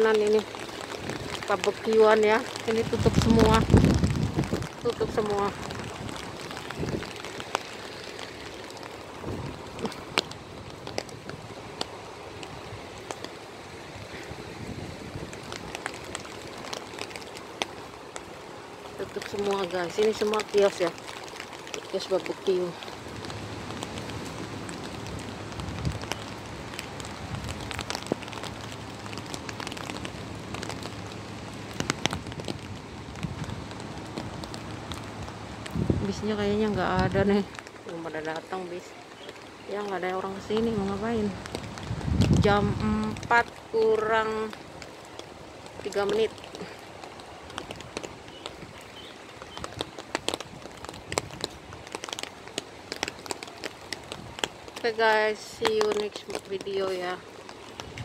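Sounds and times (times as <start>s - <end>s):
storm rain and wind: 0.0s - 58.0s.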